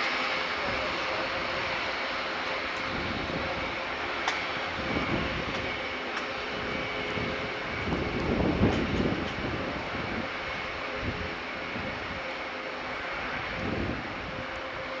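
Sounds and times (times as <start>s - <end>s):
high engine whine: 0.0s - 15.0s
turboprop engines droning: 0.0s - 15.0s.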